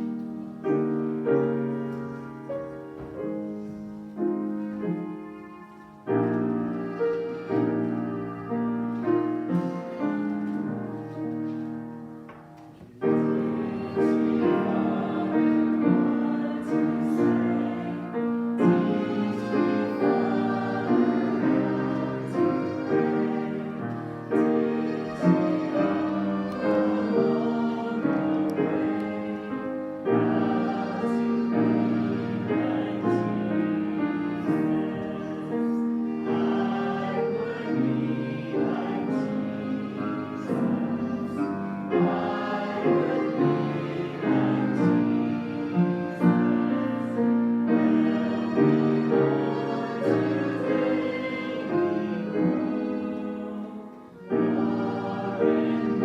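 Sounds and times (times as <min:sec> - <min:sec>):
congregation singing a hymn: 0:00.0 - 0:56.0
piano accompaniment: 0:00.0 - 0:56.0.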